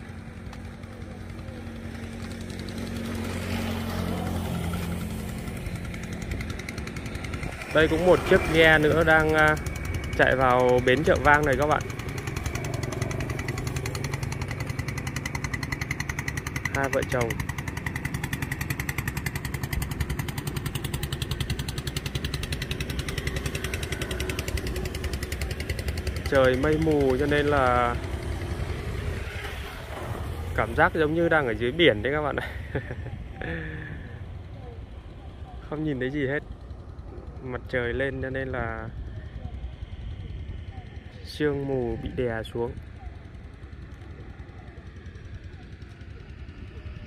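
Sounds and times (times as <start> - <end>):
boat motor running: 0.0 - 47.0
small engine chugging: 0.0 - 47.0.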